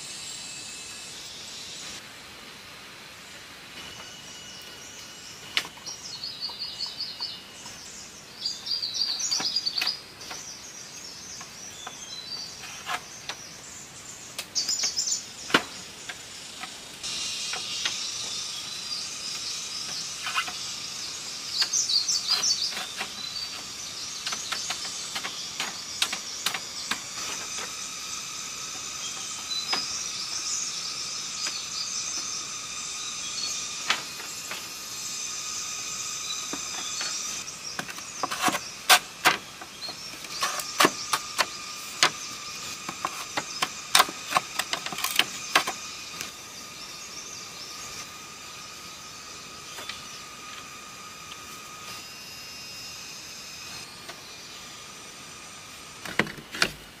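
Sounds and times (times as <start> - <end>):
birds chirping and trilling: 0.0 - 2.0, 3.1 - 56.5
high-pitched insect chorus: 0.0 - 57.0.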